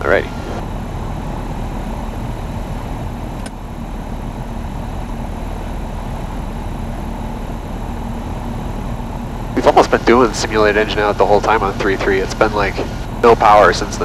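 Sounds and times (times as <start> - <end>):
air rushing in cabin: 0.0 - 14.0
aircraft engine idling: 0.0 - 14.0.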